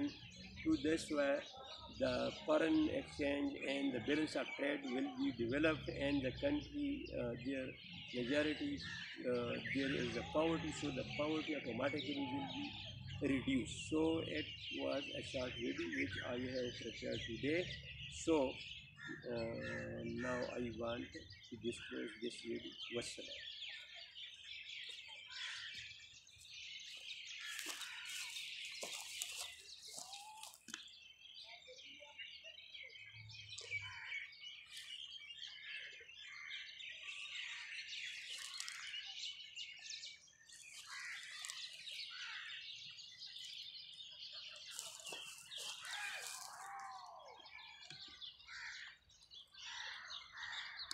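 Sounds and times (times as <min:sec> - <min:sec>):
birds chirping and calling: 0:00.0 - 0:50.9.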